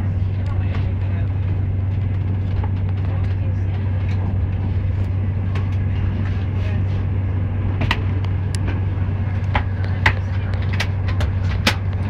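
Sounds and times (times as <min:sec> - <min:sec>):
train car hum and rumble: 0:00.0 - 0:12.0.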